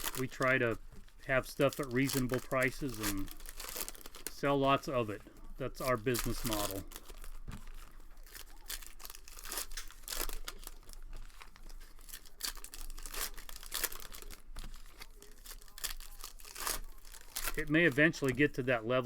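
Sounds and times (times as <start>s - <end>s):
cards being handled: 0.0s - 18.7s
wrappers tearing and crinkling: 0.0s - 19.0s.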